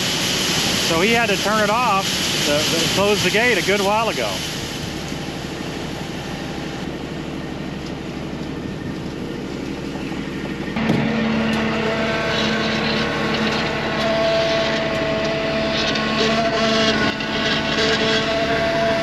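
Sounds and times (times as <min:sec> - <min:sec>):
diesel engine running: 0:00.0 - 0:19.0
low hum with higher tones: 0:00.0 - 0:19.0.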